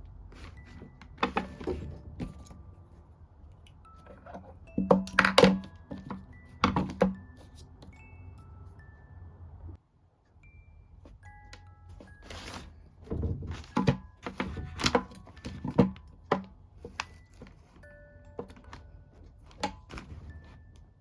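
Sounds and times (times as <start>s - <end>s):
glockenspiel-style background music: 0.3s - 21.0s.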